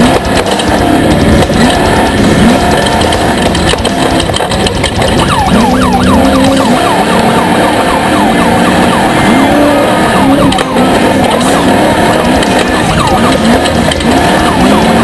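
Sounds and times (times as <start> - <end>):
race vehicle engines revving: 0.0 - 15.0.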